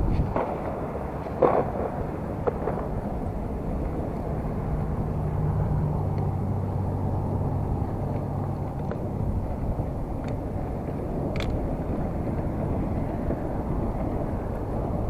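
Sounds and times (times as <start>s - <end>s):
traffic low rumble: 0.0s - 15.0s
vehicle engine hum: 0.0s - 15.0s.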